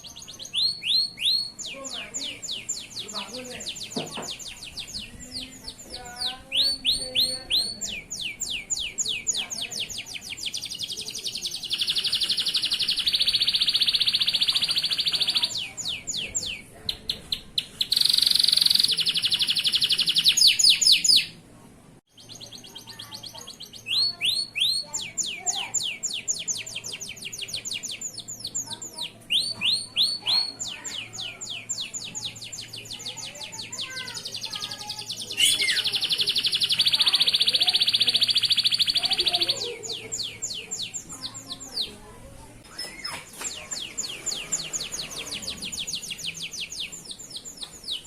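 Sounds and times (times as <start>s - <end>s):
canary singing: 0.0s - 21.4s, 22.1s - 48.0s.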